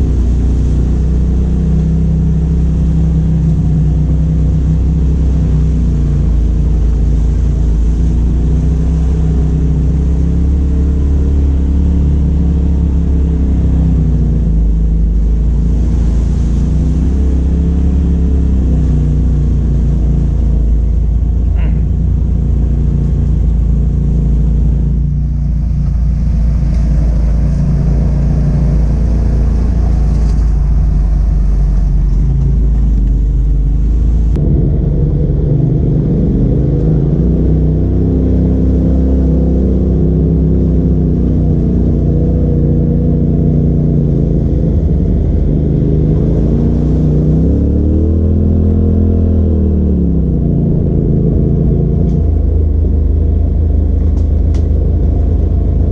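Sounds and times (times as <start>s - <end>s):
engine revving: 0.0s - 55.9s
utility vehicle engine running: 0.0s - 55.9s.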